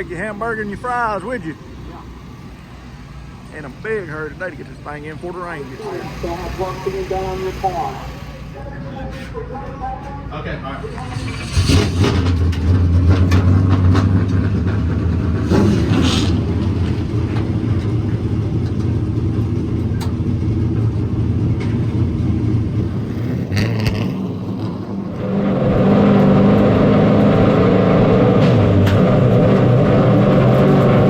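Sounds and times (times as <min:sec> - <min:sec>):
vehicle engines running: 0:00.0 - 0:31.0.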